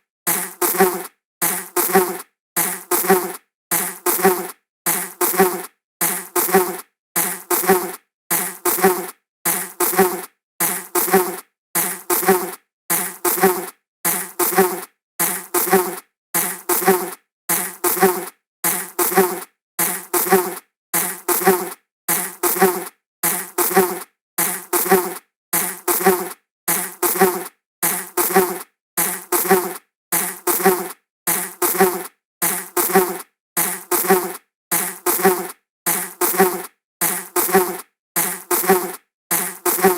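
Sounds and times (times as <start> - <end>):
insect buzzing past: 0.3 - 39.9.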